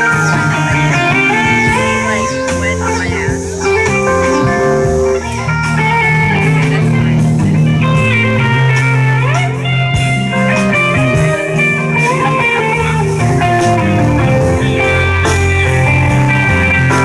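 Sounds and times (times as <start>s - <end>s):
electric guitar lead: 0.0s - 17.0s
live blues-rock band playing: 0.0s - 17.0s.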